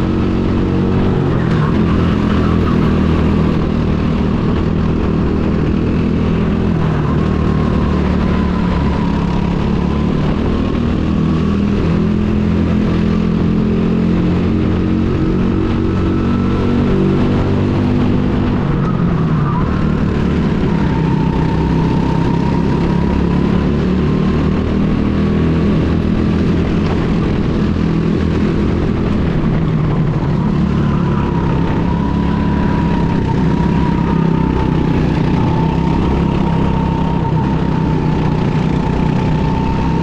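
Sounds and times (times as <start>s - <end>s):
go-kart engine running: 0.0s - 40.0s.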